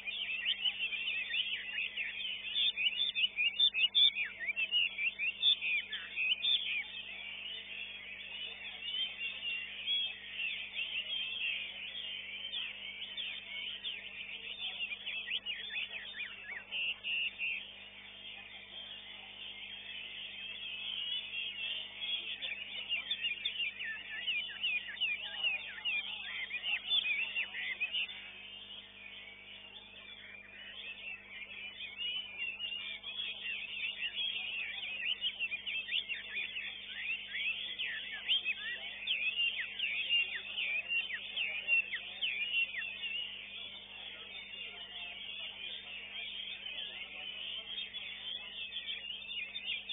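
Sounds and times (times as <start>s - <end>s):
other birds calling: 0.0s - 49.9s
songbird singing: 0.0s - 49.9s.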